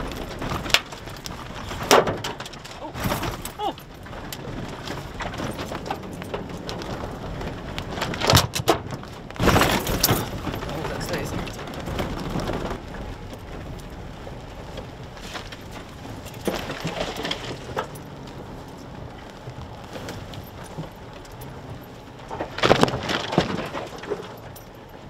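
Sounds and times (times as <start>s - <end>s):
knocks and rattles: 0.0s - 13.9s, 14.7s - 18.9s, 19.5s - 25.0s
branches scraping vehicle body: 0.0s - 25.0s
pickup truck rumbling: 0.0s - 25.0s.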